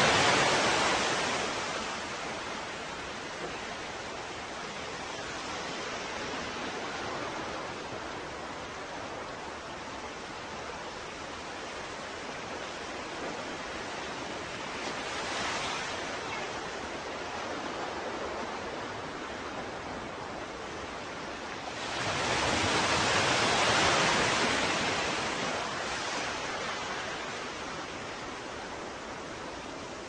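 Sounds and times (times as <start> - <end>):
ocean waves breaking on shore: 0.0 - 30.0
steady surf: 0.0 - 30.0.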